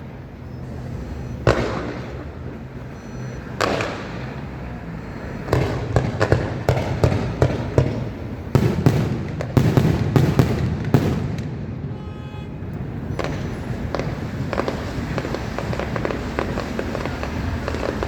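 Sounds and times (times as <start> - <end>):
fireworks bursting bangs: 0.0 - 18.0.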